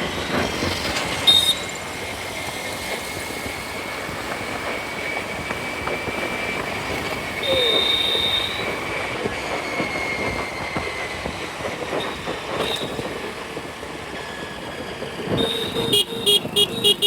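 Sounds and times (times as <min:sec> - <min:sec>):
rumble of moving vehicles: 0:00.0 - 0:17.0.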